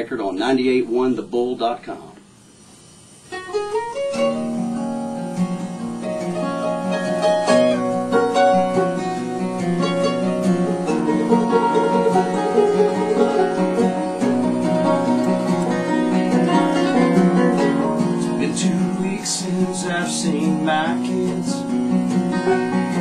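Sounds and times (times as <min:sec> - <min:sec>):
plucked acoustic string band: 0:03.4 - 0:23.0.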